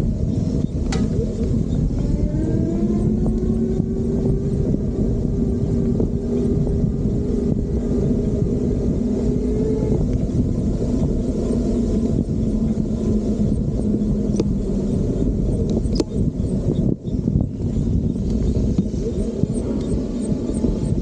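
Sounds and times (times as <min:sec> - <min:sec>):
steady low hum: 0:00.0 - 0:21.0
wind rumble on microphone: 0:00.0 - 0:21.0.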